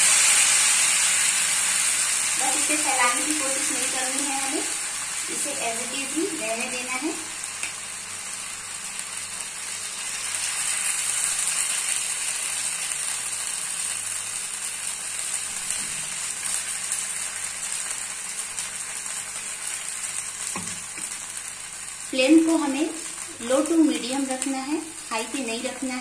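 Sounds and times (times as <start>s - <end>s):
batter sizzling in oil: 0.0s - 26.0s.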